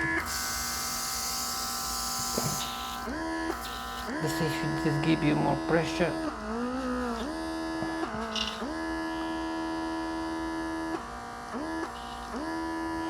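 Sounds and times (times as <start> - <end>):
airbrush compressor motor whine: 0.0 - 13.0.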